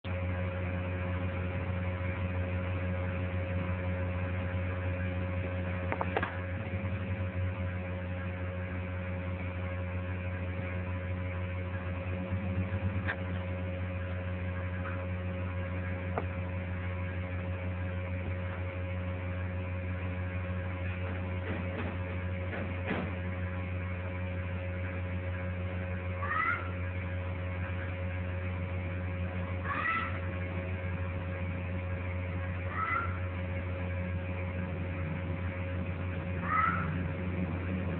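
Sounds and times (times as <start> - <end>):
electrical mains hum: 0.0 - 37.9.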